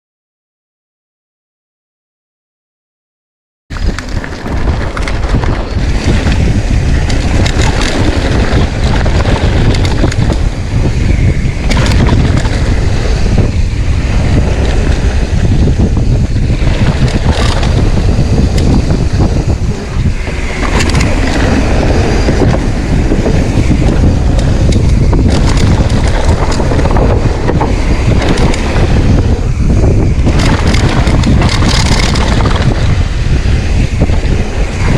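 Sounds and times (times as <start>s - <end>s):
heavy low rumble: 3.7s - 34.9s
wind buffeting microphone: 3.7s - 34.9s
bike rattling knocks: 3.8s - 13.4s, 14.2s - 34.3s.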